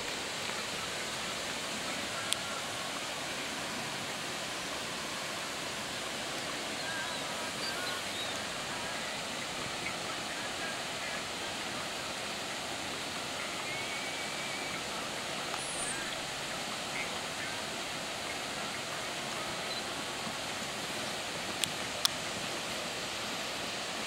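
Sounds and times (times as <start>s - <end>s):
outdoor hiss: 0.0s - 24.0s.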